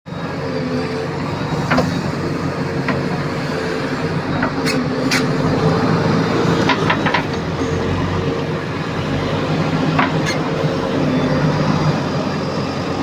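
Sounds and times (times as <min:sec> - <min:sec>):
diesel engine running: 0:00.1 - 0:13.0.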